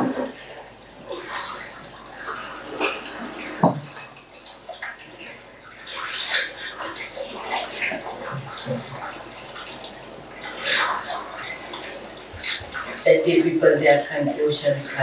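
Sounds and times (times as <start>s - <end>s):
sea waves washing: 0.0s - 15.0s.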